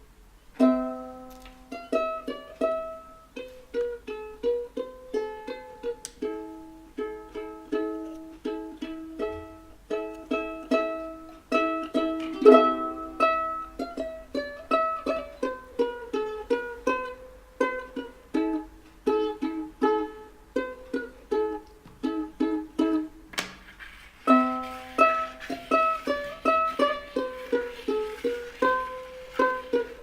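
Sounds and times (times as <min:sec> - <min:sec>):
plucked ukulele melody: 0:00.6 - 0:23.4, 0:24.3 - 0:30.0.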